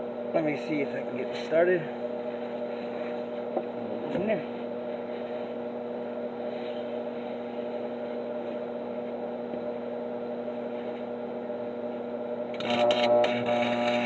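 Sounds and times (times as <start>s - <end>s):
welder humming: 0.0s - 14.0s.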